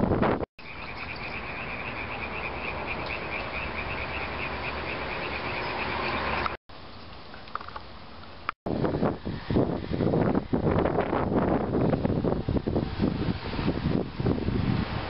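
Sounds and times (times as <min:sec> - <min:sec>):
loud wind noise: 0:00.0 - 0:06.6, 0:08.7 - 0:15.0.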